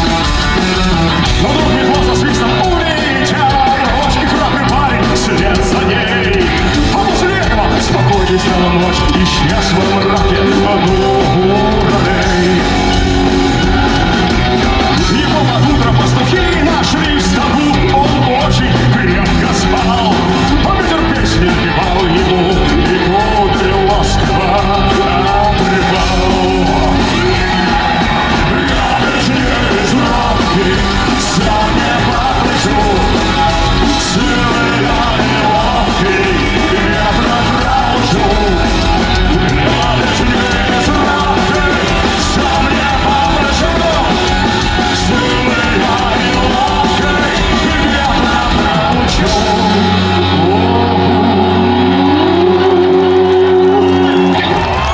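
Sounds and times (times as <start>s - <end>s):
person singing: 0.0s - 54.9s
punk rock band playing: 0.0s - 54.9s.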